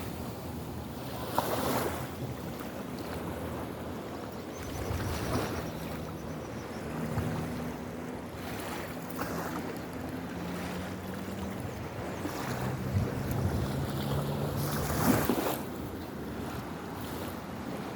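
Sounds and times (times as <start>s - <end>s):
river water rushing: 0.0s - 17.9s
wind on microphone: 0.0s - 17.9s.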